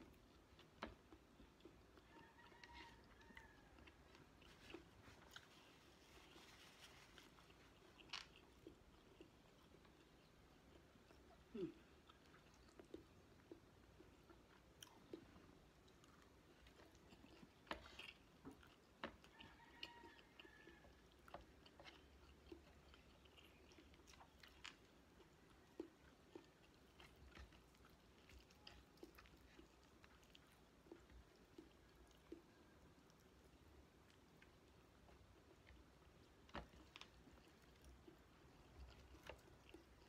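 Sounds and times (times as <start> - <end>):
person chewing: 0.0 - 40.0.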